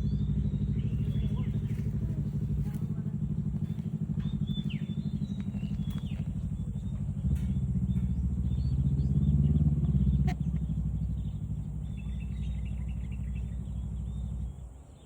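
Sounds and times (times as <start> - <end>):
faint bird chirps: 0.0 - 2.8, 3.6 - 15.0
vehicle engine humming: 0.0 - 15.0.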